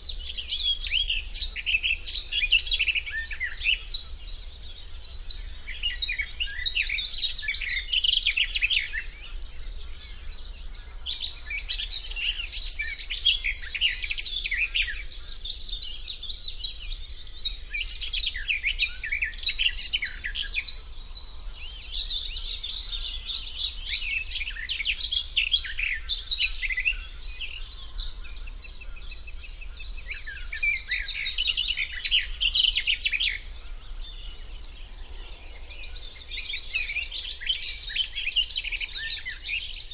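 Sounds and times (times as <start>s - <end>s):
warbler singing chattering song: 0.0s - 39.9s.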